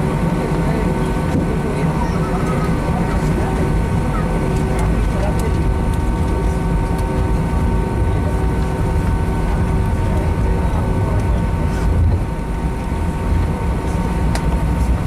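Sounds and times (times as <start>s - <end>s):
deep rumble: 0.0s - 15.0s
jet engine and airflow rush: 0.0s - 15.0s
steady whining tones: 0.0s - 15.0s.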